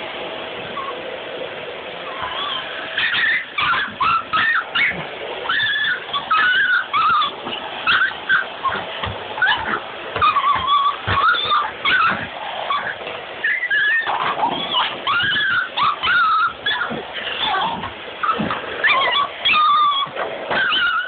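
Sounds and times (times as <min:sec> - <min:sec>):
dogs whining and yipping: 0:00.6 - 0:01.1, 0:02.1 - 0:21.0.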